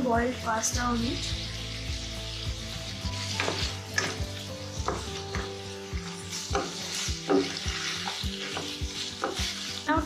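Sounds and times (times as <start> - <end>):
food sizzling in a pan: 0.0 - 10.0
utensil knocking and scraping pan: 1.2 - 9.8.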